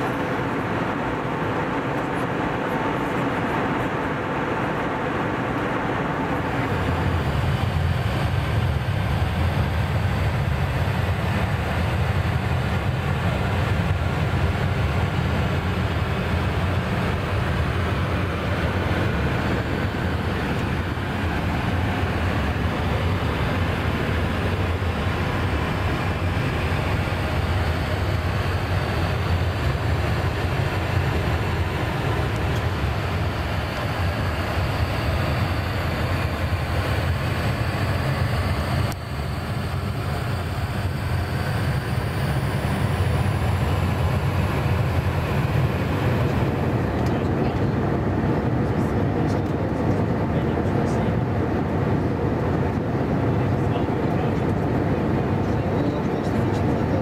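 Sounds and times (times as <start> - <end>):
low cabin rumble: 0.0 - 57.0.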